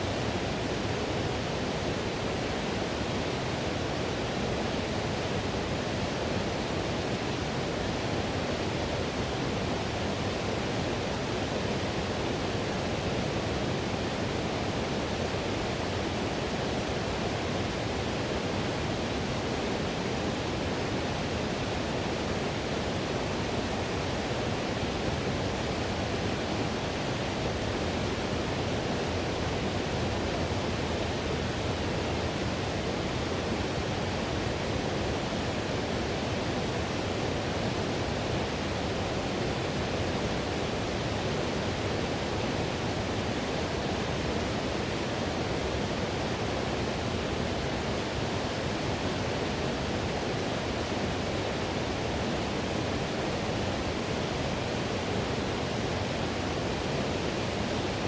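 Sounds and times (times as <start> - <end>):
river rushing: 0.0 - 58.0.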